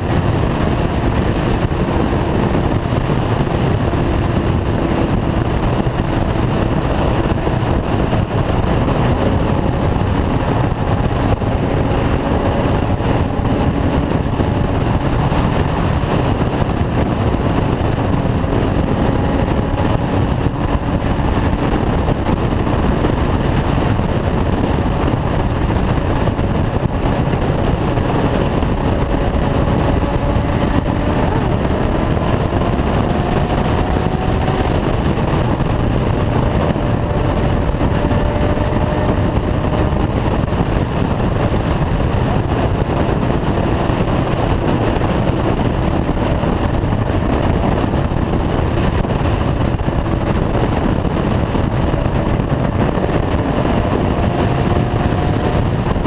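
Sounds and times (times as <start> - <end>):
motorcycle engine hum: 0.0 - 56.0
wind and road noise: 0.0 - 56.0.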